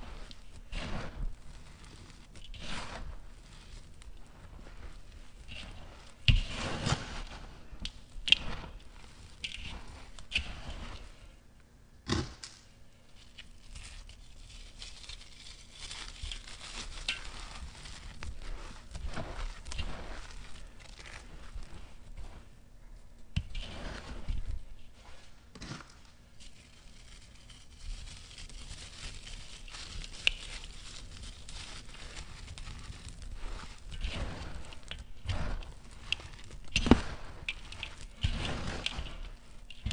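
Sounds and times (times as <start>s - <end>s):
hands crumbling gritty sand: 0.0s - 11.3s, 13.3s - 22.6s, 23.3s - 39.9s
grains pattering: 0.0s - 11.4s, 13.2s - 22.6s, 26.4s - 39.9s.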